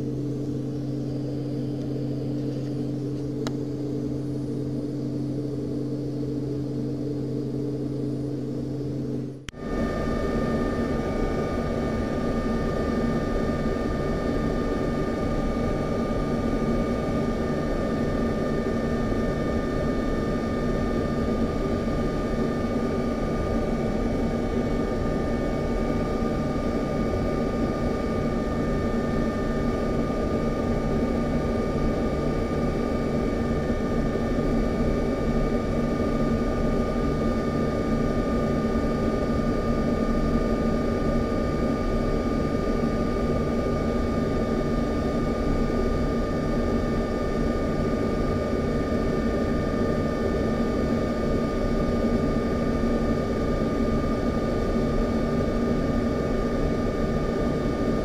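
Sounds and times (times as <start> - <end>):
high-pitched whine: 0.0 - 58.0.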